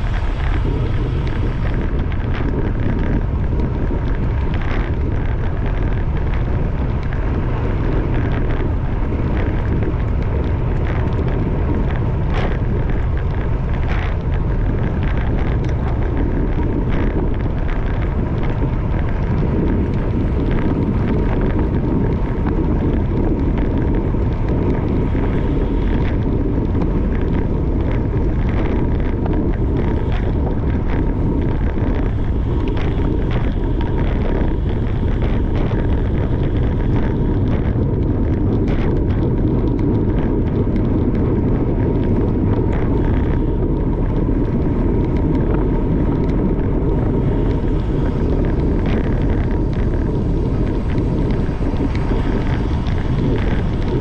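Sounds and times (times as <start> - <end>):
faint steady whine: 0.0 - 54.0
small clicks: 0.0 - 54.0
wind on microphone: 0.0 - 54.0.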